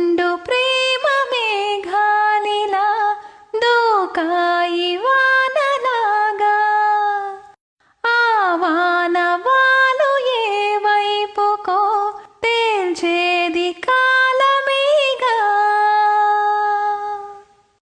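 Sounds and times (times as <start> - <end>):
woman singing slow melody: 0.0 - 17.6.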